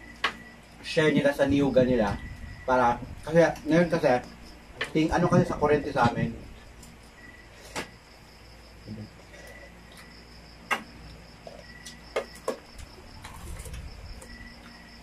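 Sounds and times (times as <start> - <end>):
insect trill: 0.0 - 15.0.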